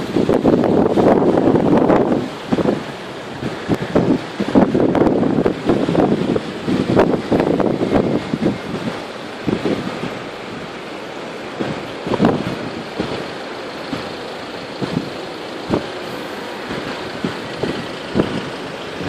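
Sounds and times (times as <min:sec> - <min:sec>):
car engines running: 0:00.0 - 0:19.0
steady rush of noise: 0:00.0 - 0:19.0
wind buffeting microphone: 0:00.0 - 0:19.0.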